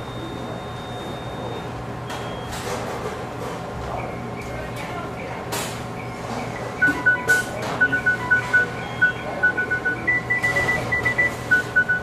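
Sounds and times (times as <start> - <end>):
kitchen equipment beeping: 0.0 - 3.0, 3.8 - 12.0.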